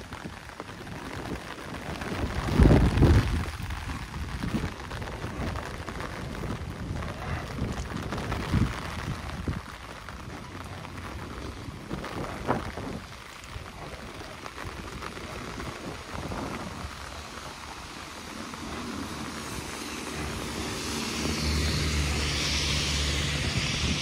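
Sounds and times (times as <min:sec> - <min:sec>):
rain hiss on wet street: 0:00.0 - 0:24.0
vehicle passing on wet road: 0:00.0 - 0:24.0.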